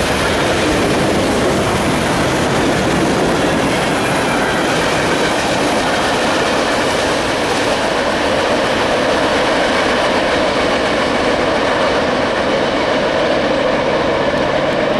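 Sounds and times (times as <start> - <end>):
freight train cars rolling: 0.0 - 14.9
steel wheels on rails: 0.0 - 14.9.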